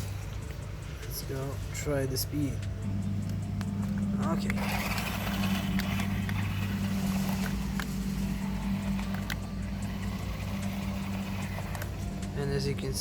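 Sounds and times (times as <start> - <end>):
toy car electric motor humming: 0.0 - 1.1, 2.4 - 13.0.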